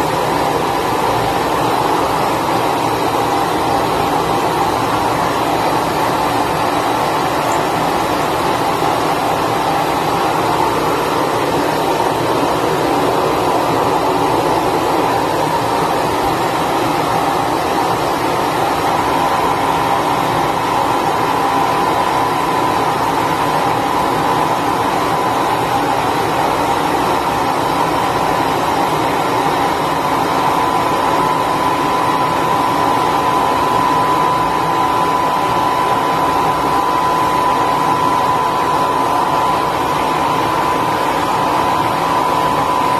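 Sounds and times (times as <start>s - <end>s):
faint steady whine: 0.0s - 42.9s
hair dryer blowing air: 0.0s - 42.9s.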